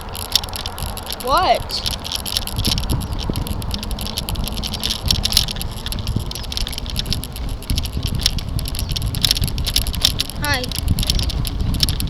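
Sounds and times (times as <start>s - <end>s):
camera rattling and clicking: 0.0s - 12.0s
low rumble of tyres and wind: 0.0s - 12.0s.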